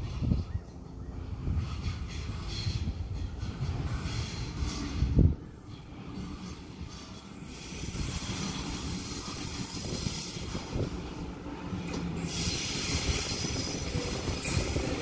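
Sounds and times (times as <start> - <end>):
train rumble and rail noise: 0.0 - 15.0.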